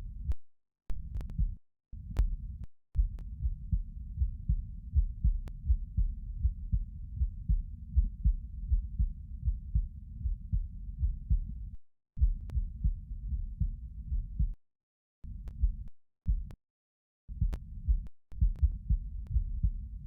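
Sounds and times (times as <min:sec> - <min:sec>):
heartbeat thuds: 0:01.0 - 0:11.6, 0:12.2 - 0:14.6, 0:15.3 - 0:16.6, 0:17.3 - 0:20.0.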